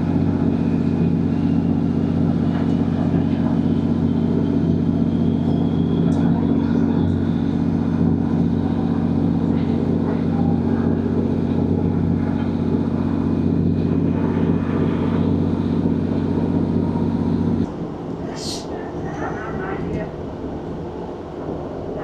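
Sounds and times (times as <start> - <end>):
train diesel engine droning: 0.0 - 22.0.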